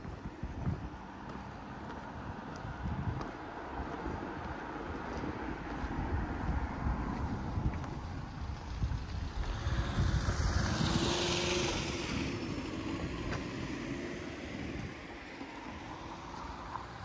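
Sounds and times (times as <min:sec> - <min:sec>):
vehicle passing: 0:00.0 - 0:17.0
wind buffeting microphone: 0:00.0 - 0:17.0.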